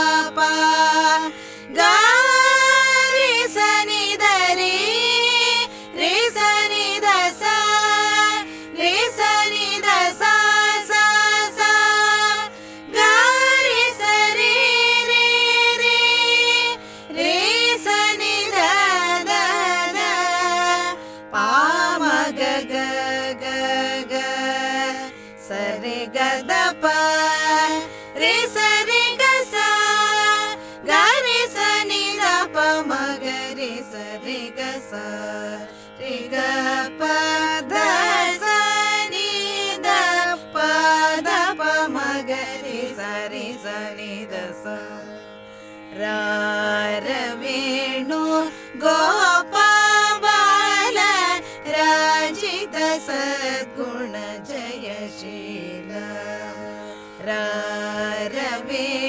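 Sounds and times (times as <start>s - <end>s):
woman singing ornamented notes: 0.0s - 45.1s, 46.0s - 59.0s
steady drone: 0.0s - 53.2s.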